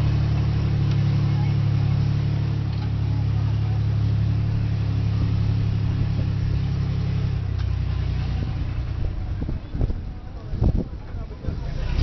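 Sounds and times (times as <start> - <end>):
tank engine droning: 0.0 - 12.0.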